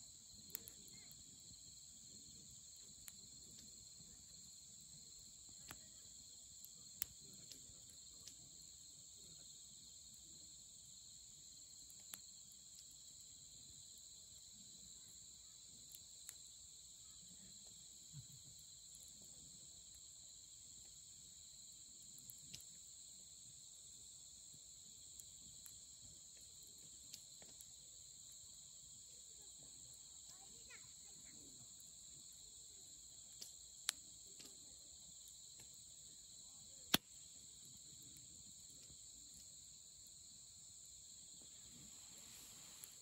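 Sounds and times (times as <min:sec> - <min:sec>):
campfire crackling and popping: 0:00.0 - 0:43.0
night insects chorus: 0:00.0 - 0:43.0.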